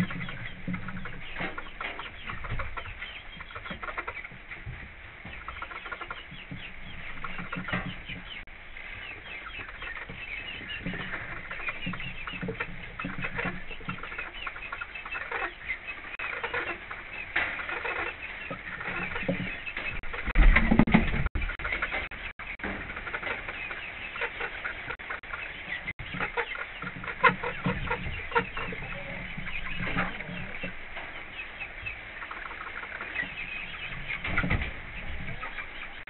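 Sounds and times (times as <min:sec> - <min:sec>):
hens clucking: 0:00.0 - 0:36.0.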